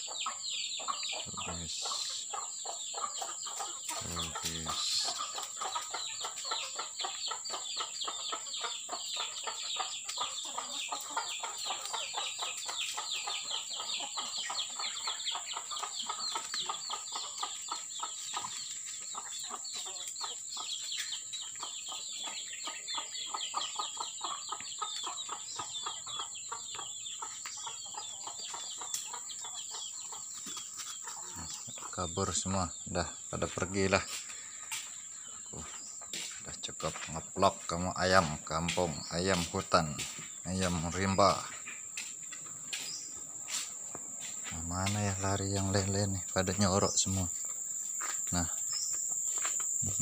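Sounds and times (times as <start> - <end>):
chickens clucking: 0.0 - 50.0.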